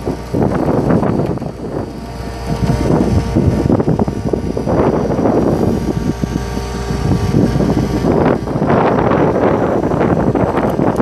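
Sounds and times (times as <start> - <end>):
diesel engine humming: 0.0 - 11.0
wind noise on microphone: 0.0 - 11.0.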